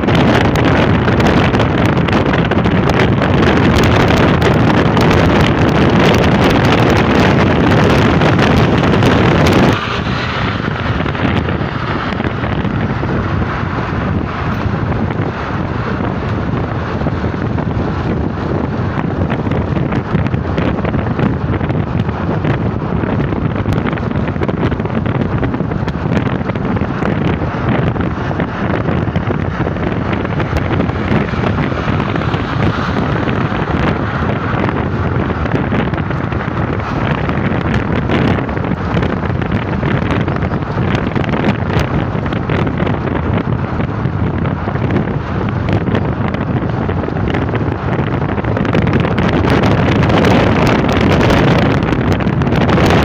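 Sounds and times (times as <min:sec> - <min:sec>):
car road noise: 0:00.0 - 0:53.0
wind on microphone: 0:00.0 - 0:53.0.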